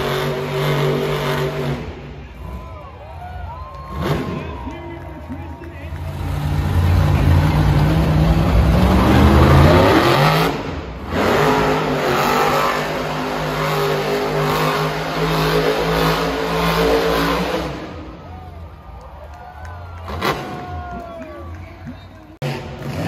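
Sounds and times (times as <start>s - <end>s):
truck engine revving: 0.0s - 2.7s, 5.6s - 18.8s, 19.9s - 23.0s.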